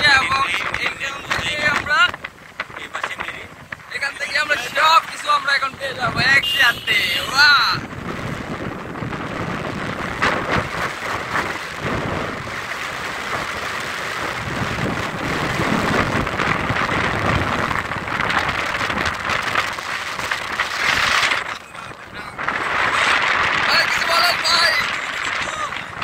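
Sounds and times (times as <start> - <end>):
road noise: 0.0 - 26.0
vehicle engine: 0.0 - 26.0
wind rushing over microphone: 0.0 - 26.0.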